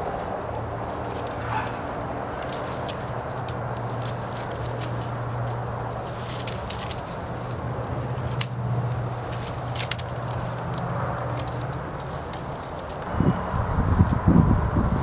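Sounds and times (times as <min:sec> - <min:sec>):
branches cracking: 0:00.0 - 0:14.2
branches rustling: 0:00.0 - 0:14.7.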